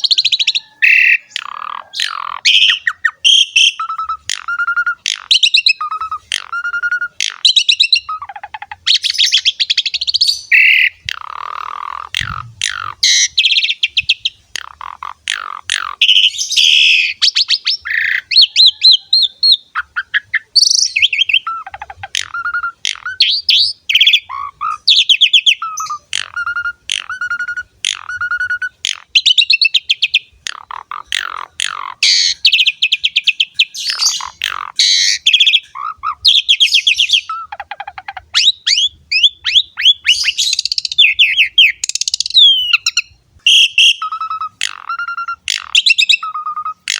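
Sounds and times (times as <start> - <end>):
starling singing varied song: 0.0 - 46.9.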